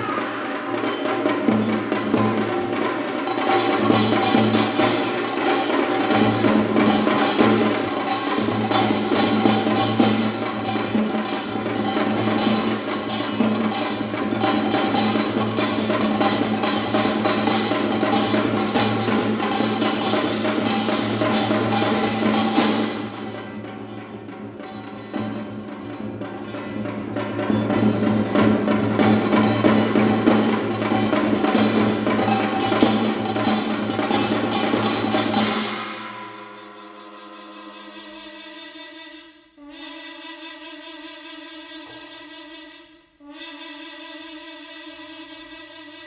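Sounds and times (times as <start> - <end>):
fast percussion ensemble: 0.0 - 39.1.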